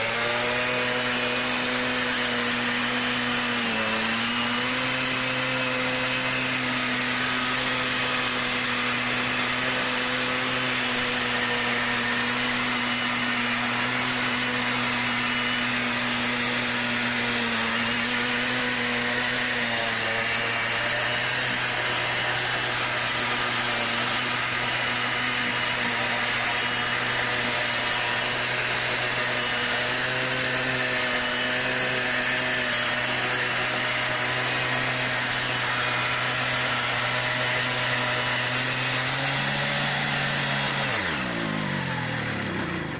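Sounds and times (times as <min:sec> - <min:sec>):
moped engine revving: 0:00.0 - 0:42.9.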